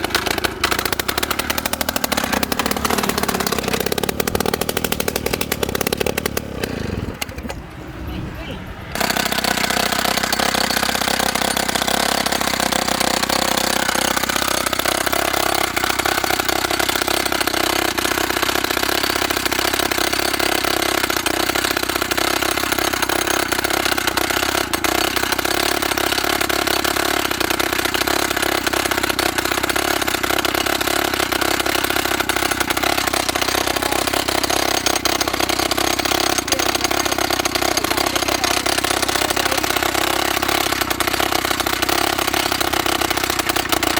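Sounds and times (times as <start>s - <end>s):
petrol rock drill running: 0.0s - 7.6s, 8.9s - 43.9s.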